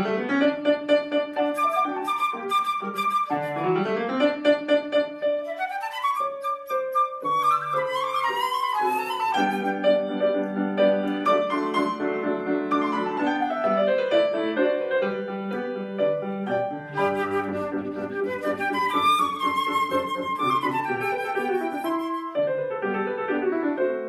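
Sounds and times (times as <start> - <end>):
flute: 0.0 - 15.6, 16.4 - 24.0
piano: 0.0 - 24.0.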